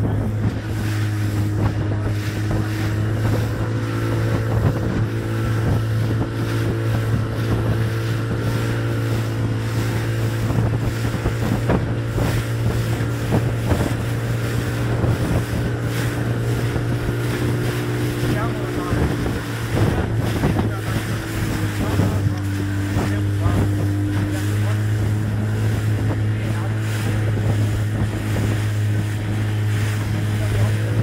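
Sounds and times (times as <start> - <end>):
outboard motor running: 0.0 - 31.0
water splashing against hull: 0.0 - 31.0
wind buffeting microphone: 0.0 - 31.0.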